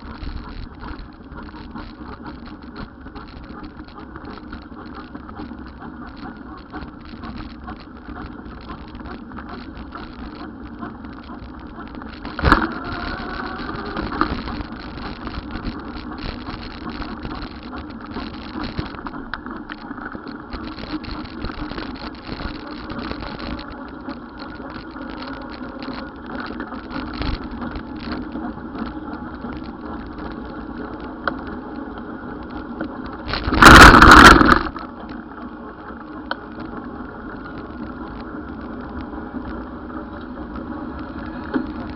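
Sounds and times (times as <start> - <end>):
vehicle and road noise: 0.0 - 41.9.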